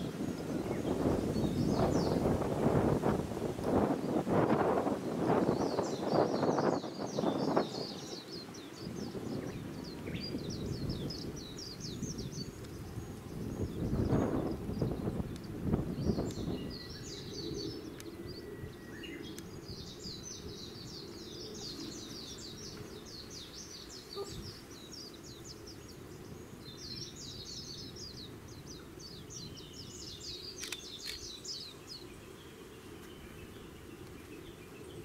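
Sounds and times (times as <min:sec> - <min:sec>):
songbird twittering: 0:00.0 - 0:02.5, 0:03.7 - 0:35.0.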